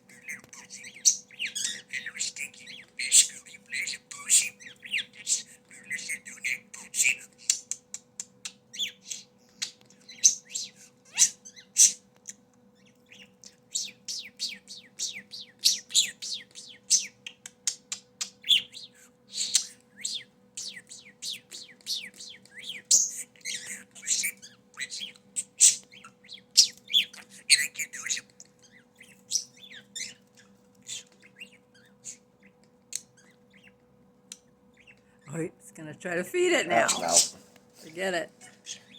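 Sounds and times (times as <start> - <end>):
budgerigar warbling and chattering: 0.0 - 35.0, 36.5 - 37.5, 38.4 - 38.9
faint steady hum: 0.0 - 38.9.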